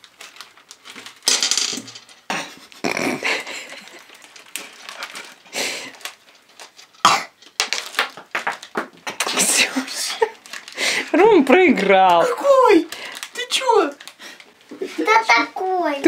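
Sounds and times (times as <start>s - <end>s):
candies clattering into metal pot: 0.7s - 2.6s, 3.2s - 14.2s.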